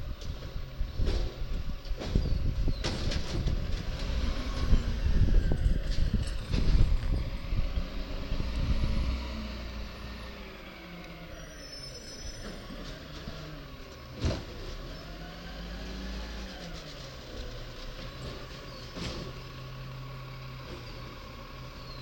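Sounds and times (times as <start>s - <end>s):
garbage truck engine rumbling: 0.0s - 22.0s.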